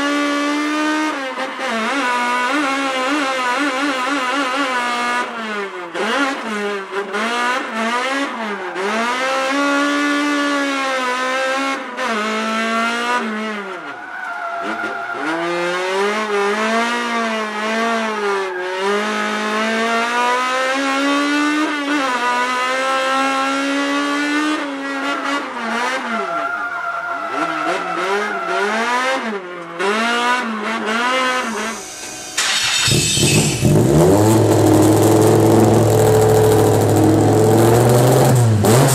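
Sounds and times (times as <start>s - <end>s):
car engine revving high: 0.0s - 38.9s
loud engine: 0.0s - 38.9s.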